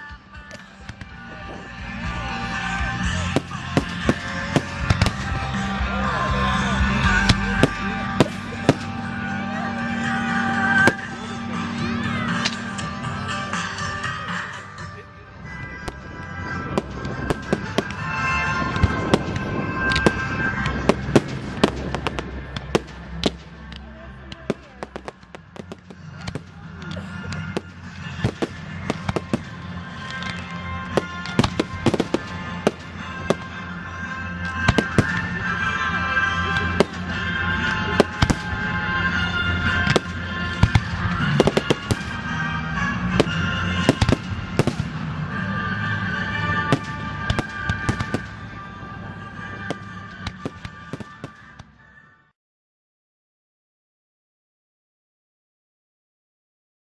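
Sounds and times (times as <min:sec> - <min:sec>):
fireworks bangs and crackles: 0:00.0 - 0:14.3, 0:15.5 - 0:51.8
low rumble: 0:00.0 - 0:14.3, 0:15.3 - 0:50.9.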